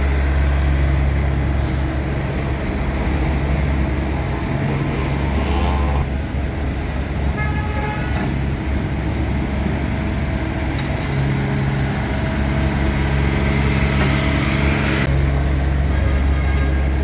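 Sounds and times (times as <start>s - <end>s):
engine humming: 0.0s - 17.0s
street noise: 0.0s - 17.0s.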